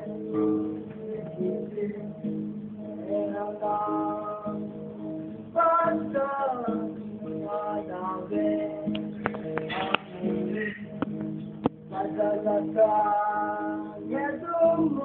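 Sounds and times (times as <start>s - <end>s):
boy singing pop song: 0.0s - 11.0s, 11.9s - 15.0s
guitar plucked and strummed: 0.0s - 15.0s.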